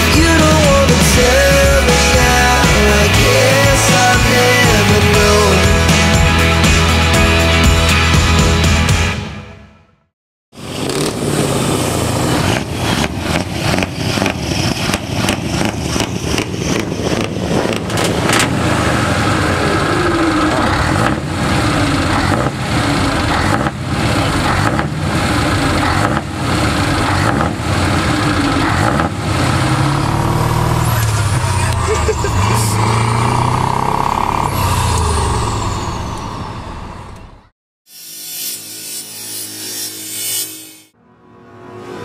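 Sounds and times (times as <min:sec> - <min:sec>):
truck diesel engine revving: 0:00.0 - 0:09.0, 0:10.6 - 0:37.5.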